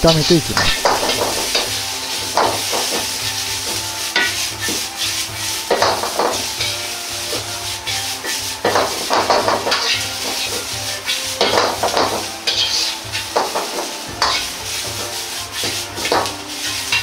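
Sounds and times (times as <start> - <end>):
metal ladle scraping a wok: 0.0 - 17.0
vegetables sizzling in oil: 0.0 - 17.0.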